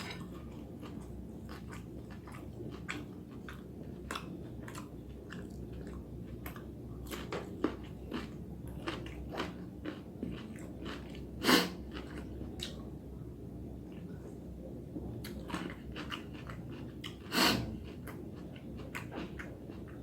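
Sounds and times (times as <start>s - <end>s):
person chewing noodles: 0.0s - 12.9s, 15.2s - 20.0s.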